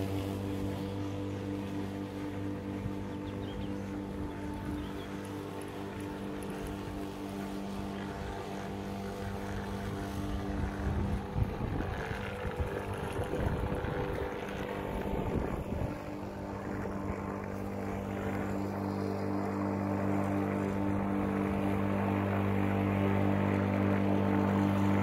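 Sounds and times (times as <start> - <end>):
electric lawn mower humming: 0.0 - 25.0.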